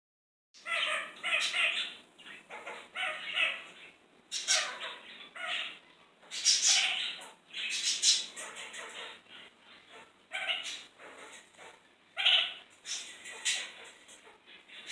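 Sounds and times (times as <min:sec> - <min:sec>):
parakeet chattering calls: 0:00.6 - 0:14.9.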